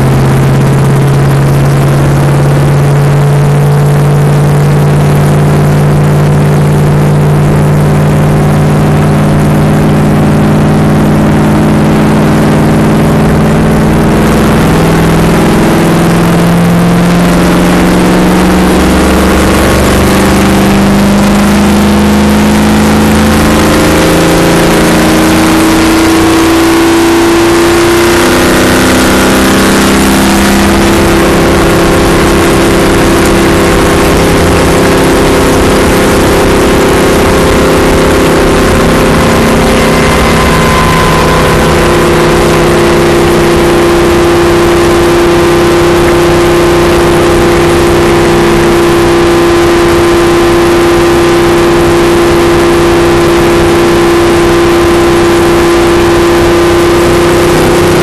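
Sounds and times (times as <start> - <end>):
race car engine at high revs: 0.0 - 58.0
wind and road noise: 0.0 - 58.0.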